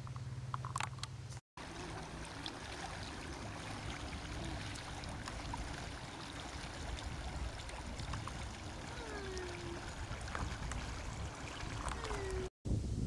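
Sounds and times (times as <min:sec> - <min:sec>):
water rushing at lake shore: 0:01.6 - 0:12.5.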